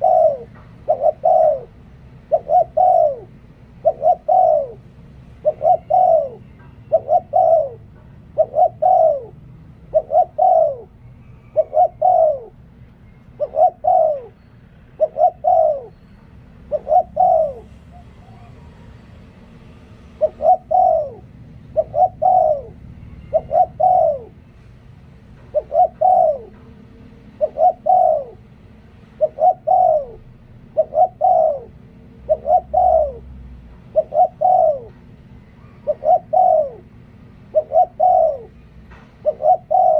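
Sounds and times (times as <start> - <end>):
dove cooing: 0.0 - 12.6, 13.3 - 19.1, 20.0 - 24.6, 25.3 - 39.9.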